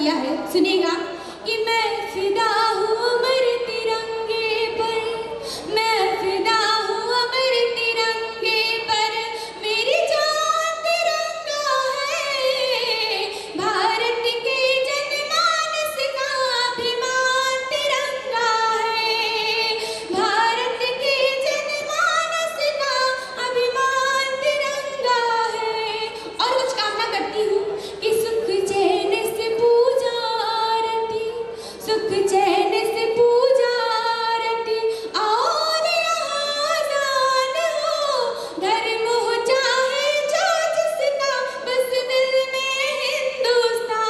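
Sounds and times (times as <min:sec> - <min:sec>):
girl singing into microphone: 0:00.0 - 0:44.0.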